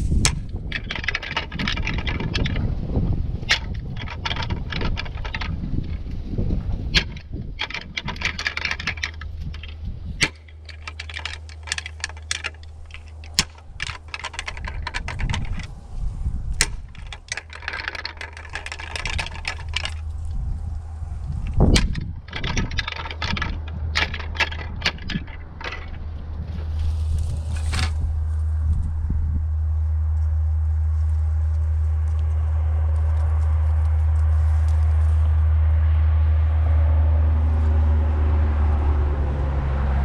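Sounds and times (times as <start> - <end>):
rustling: 0.0 - 35.5
wind buffeting microphone: 0.0 - 37.5.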